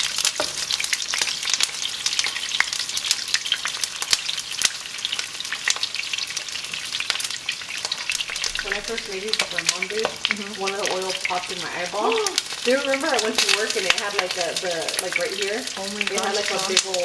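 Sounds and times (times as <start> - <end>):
peppers sizzling in hot oil: 0.0 - 17.0.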